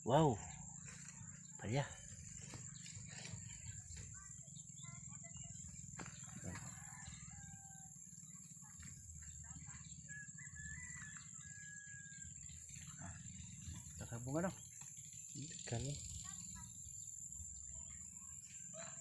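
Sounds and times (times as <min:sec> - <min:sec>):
distant bird calls: 0:00.0 - 0:19.0.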